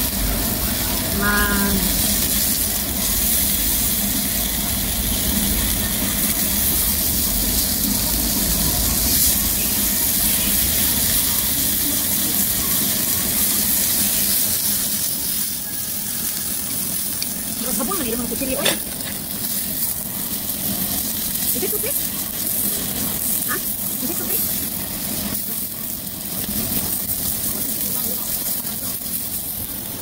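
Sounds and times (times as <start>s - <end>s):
steak sizzling on a grill stone: 0.0s - 30.0s.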